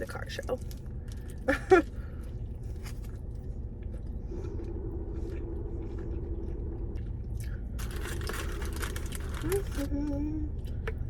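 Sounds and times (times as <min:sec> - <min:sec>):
low car interior hum: 0:00.0 - 0:11.0
steady humming tone: 0:00.0 - 0:11.0
person chewing food: 0:00.6 - 0:09.5.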